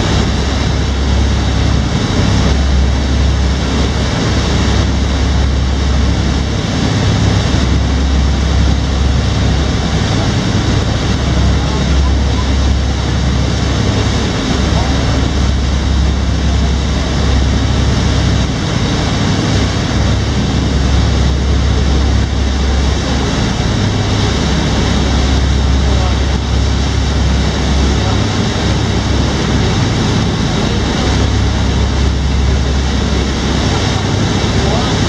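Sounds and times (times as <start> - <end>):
boat engine rumble: 0.0 - 35.0
water churning in wake: 0.0 - 35.0.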